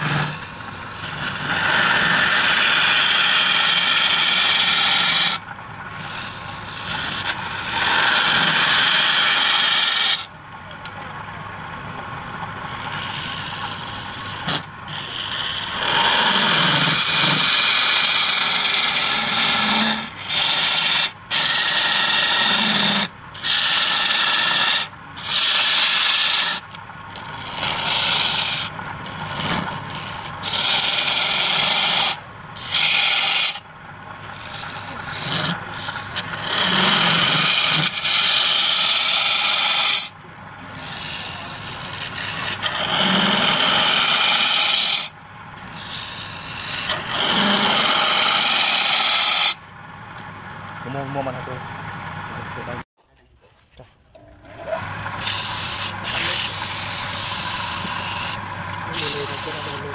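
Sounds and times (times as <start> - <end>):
scraper rasping on spinning wood: 0.0 - 10.3, 12.7 - 49.7, 54.6 - 59.9.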